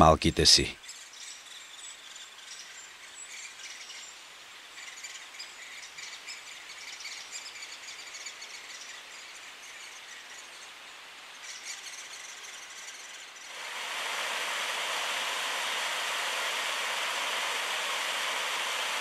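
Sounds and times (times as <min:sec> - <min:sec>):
faint woodland hiss: 0:00.0 - 0:19.0
forest birds chirping: 0:00.0 - 0:19.0.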